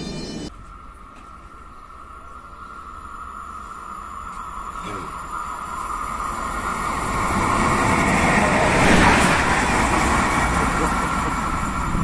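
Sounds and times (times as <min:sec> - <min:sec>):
steady high hum: 0:00.0 - 0:12.0
train passing at speed: 0:00.0 - 0:12.0.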